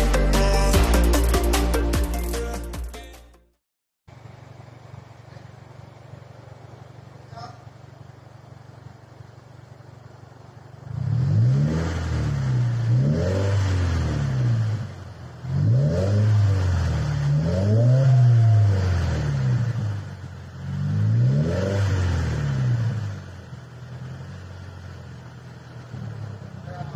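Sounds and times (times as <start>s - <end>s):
car engine idling and revving: 4.1s - 26.9s.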